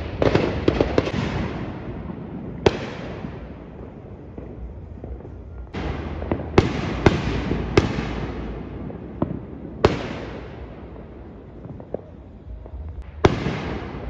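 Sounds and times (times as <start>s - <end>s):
fireworks bangs: 0.0s - 14.0s
fireworks hissing crackle: 0.0s - 14.0s.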